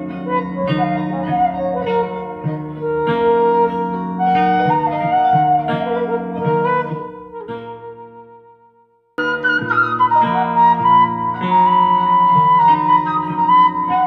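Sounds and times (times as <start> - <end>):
plucked guitar notes: 0.0 - 14.0
sliding woodwind melody: 0.0 - 14.0.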